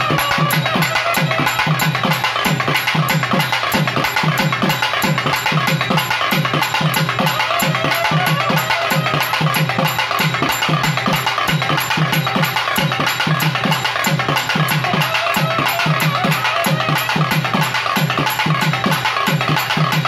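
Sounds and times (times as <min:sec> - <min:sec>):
deep drum beats: 0:00.0 - 0:20.0
rapid sharp drum strokes: 0:00.0 - 0:20.0.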